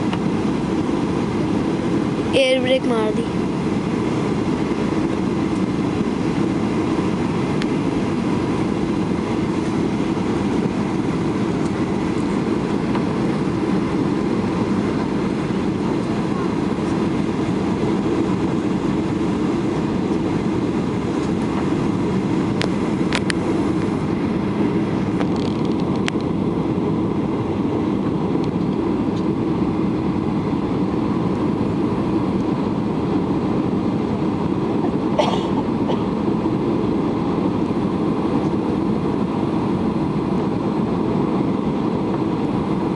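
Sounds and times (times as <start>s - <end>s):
airliner engines roaring in cabin: 0.0s - 42.9s
rushing air: 0.0s - 42.9s.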